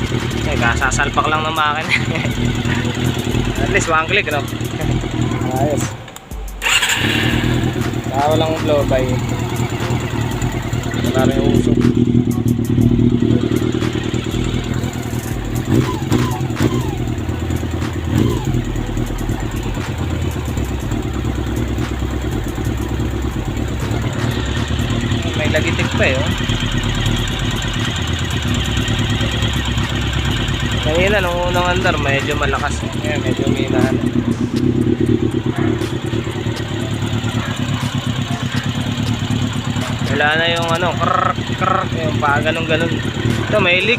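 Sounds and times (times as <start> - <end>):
light engine ticking: 0.0 - 43.9
motorcycle engine idling: 0.0 - 43.9.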